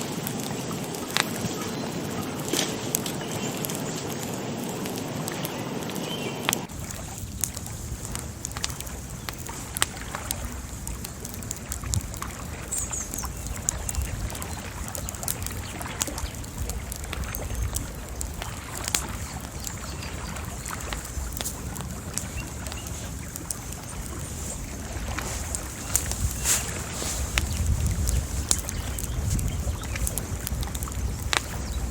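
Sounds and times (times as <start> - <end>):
bonfire crackling and popping: 0.0 - 31.9.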